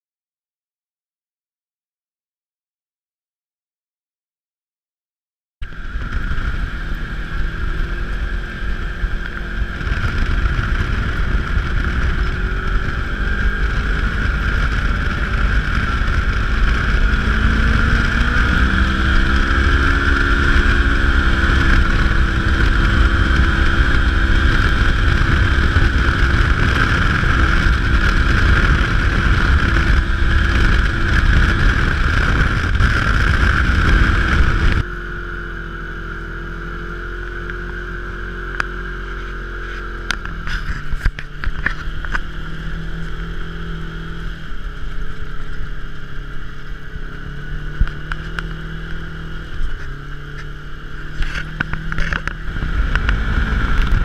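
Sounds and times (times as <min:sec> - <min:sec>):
off-road vehicle engine: 0:05.6 - 0:54.0.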